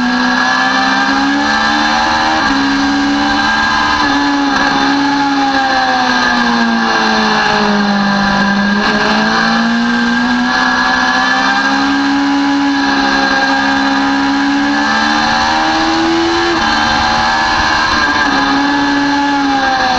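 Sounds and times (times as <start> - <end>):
motorcycle engine at high revs: 0.0 - 19.9.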